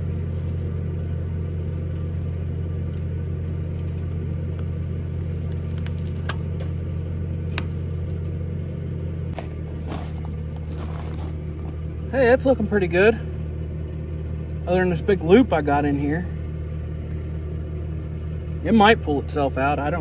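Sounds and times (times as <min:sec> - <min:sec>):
heavy equipment engine humming: 0:00.0 - 0:20.0.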